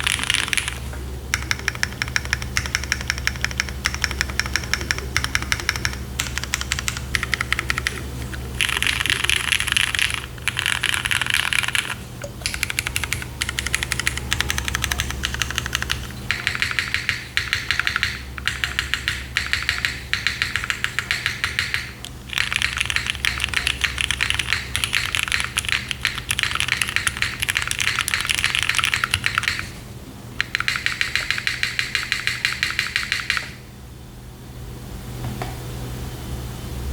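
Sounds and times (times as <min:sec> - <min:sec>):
mechanical keyboard key clacks: 0:00.0 - 0:29.7, 0:30.4 - 0:33.6.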